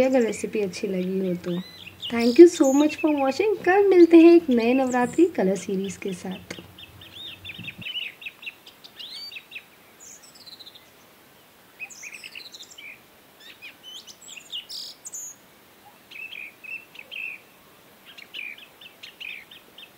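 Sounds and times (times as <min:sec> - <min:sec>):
small birds chirping: 0:00.0 - 0:11.2, 0:11.8 - 0:19.9.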